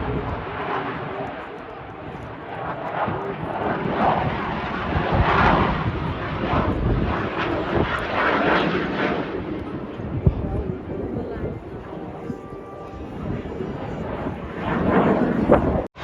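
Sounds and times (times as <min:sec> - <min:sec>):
airplane engine flying over: 0:00.0 - 0:16.0.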